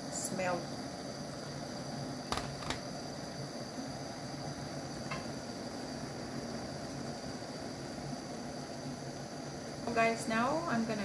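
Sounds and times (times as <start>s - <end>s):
curry simmering in a pan: 0.0s - 11.0s.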